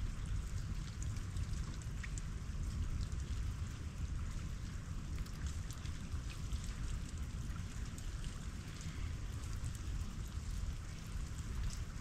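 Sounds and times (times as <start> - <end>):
meltwater dripping: 0.0 - 12.0.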